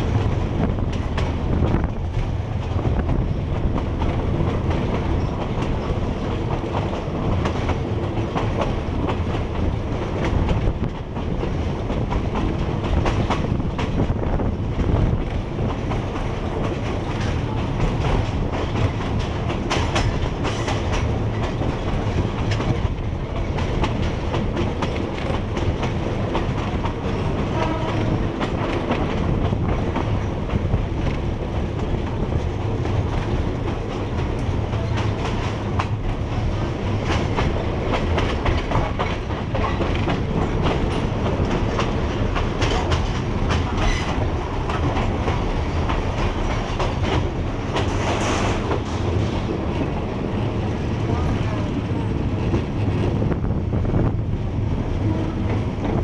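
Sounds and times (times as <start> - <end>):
wheels clacking over rail joints: 0.0 - 53.4
train low rumble: 0.0 - 56.0.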